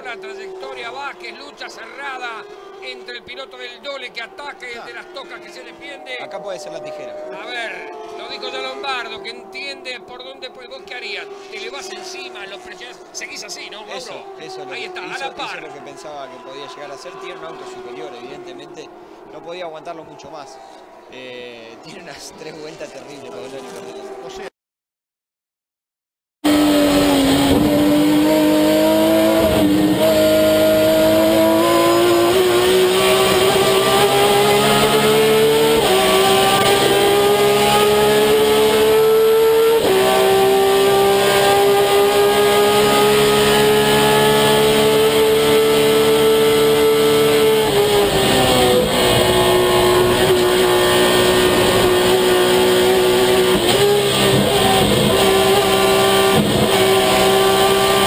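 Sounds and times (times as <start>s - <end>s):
race car engine at speed: 0.0s - 20.6s, 26.4s - 58.0s.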